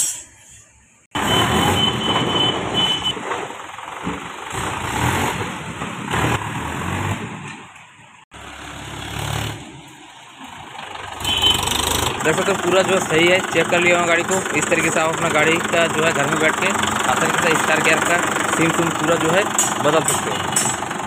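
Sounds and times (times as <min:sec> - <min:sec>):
tractor diesel engine running: 0:01.1 - 0:21.0.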